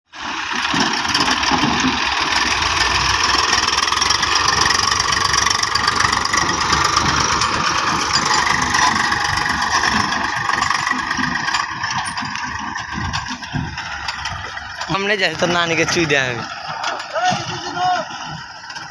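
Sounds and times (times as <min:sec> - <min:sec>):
tractor engine chugging: 0:00.1 - 0:18.9
mechanical whine and rattle: 0:00.2 - 0:18.9.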